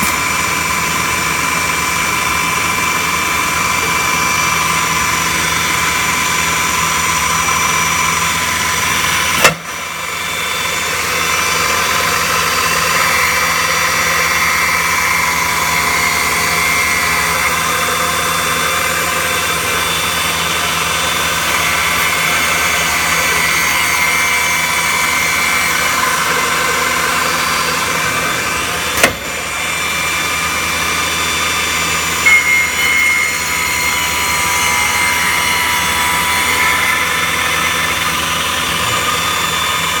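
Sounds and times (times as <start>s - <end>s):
router running with high whine: 0.0s - 40.0s.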